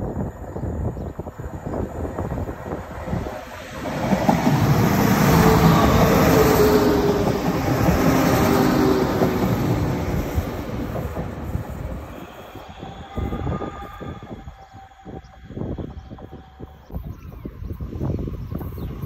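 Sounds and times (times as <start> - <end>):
diesel train engine: 1.4 - 16.8
train wheels on rails: 1.6 - 19.0.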